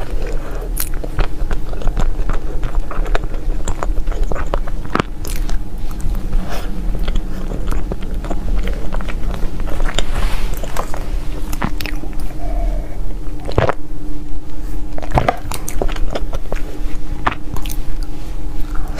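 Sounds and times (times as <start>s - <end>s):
person chewing crunchy food: 0.0s - 18.9s
steady low hum: 0.0s - 18.9s.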